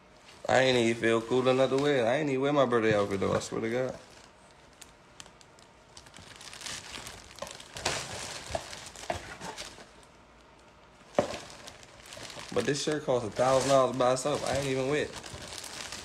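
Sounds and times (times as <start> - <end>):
rustling and crinkling: 0.0 - 16.0.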